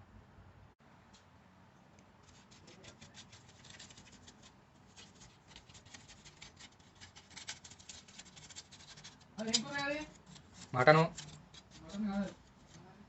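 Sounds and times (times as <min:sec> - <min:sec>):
faint rapid scratching and clicks: 0:01.9 - 0:13.0.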